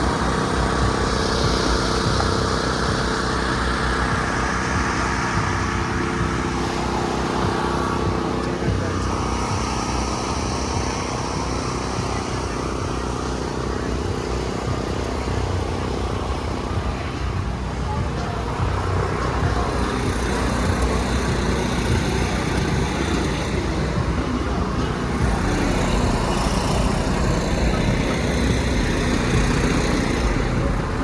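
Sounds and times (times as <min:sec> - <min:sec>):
outdoor crowd noise: 0:00.0 - 0:31.0
vehicle engine running: 0:00.0 - 0:31.0.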